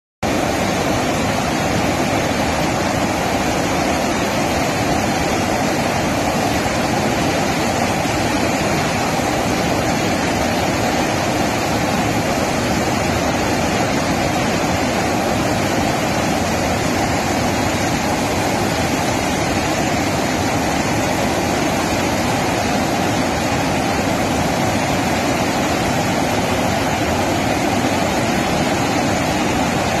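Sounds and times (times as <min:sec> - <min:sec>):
water rushing over spillway: 0:00.2 - 0:30.0.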